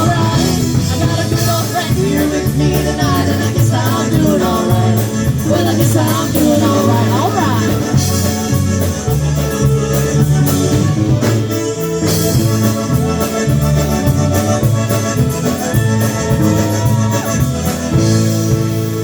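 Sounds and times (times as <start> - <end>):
accordion melody: 0.0 - 19.0
polka band playing: 0.0 - 19.0.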